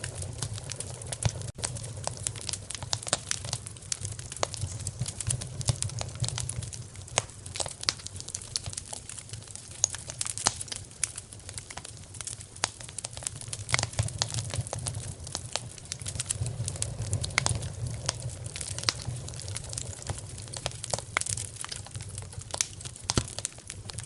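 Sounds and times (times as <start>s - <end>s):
fire pops and snaps: 0.0s - 24.0s
low rumble of flames: 0.0s - 24.0s
wood fire crackling: 0.0s - 24.0s.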